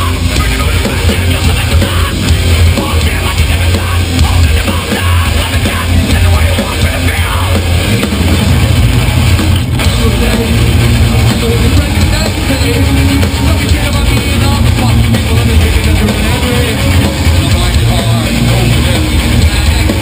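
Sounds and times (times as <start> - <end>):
live punk band playing: 0.0 - 20.0.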